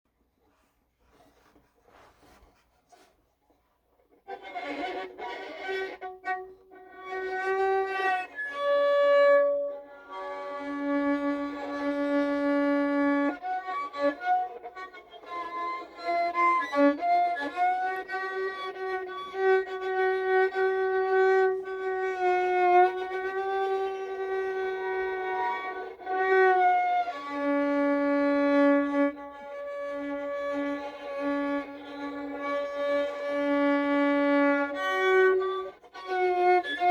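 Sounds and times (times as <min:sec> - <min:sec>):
solo violin long held notes: 0:04.3 - 0:36.9.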